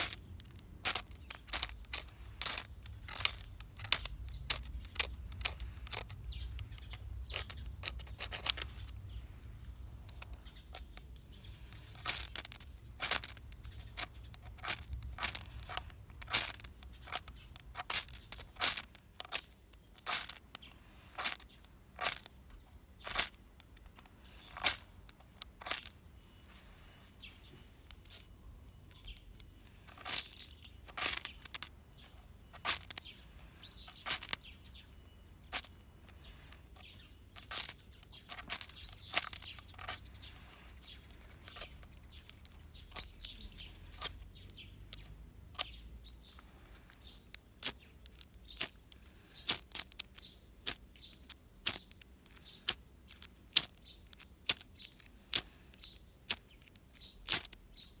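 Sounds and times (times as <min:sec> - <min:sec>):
birds chirping faintly: 0:00.0 - 0:58.0.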